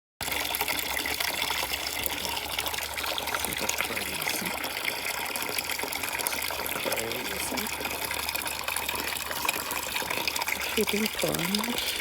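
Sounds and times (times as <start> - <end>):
water gushing: 0.2 - 12.0.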